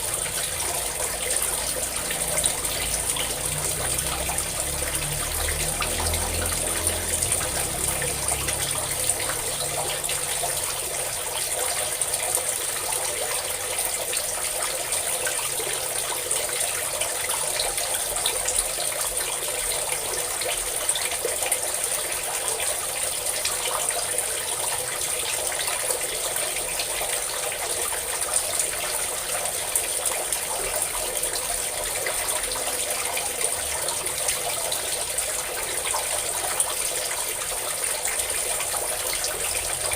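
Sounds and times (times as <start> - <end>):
water pouring and splashing: 0.0 - 39.9.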